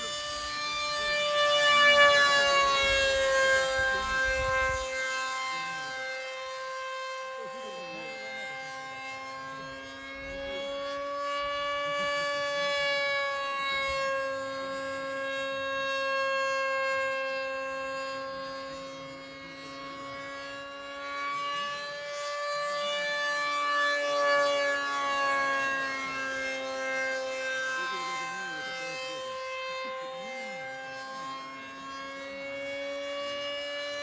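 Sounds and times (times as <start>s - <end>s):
model airplane motor whining: 0.0s - 34.0s.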